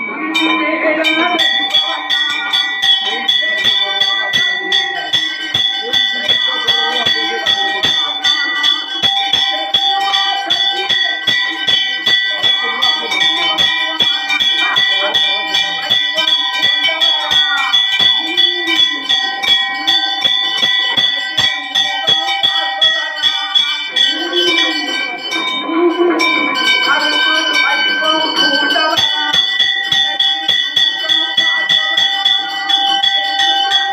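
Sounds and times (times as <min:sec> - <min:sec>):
faint voices: 0:00.0 - 0:33.9
temple bells ringing: 0:00.0 - 0:33.9.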